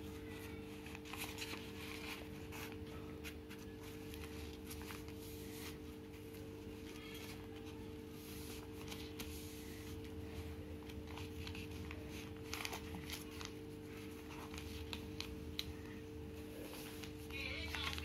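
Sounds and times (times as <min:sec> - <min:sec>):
paper folding and crackling: 0:00.0 - 0:18.0.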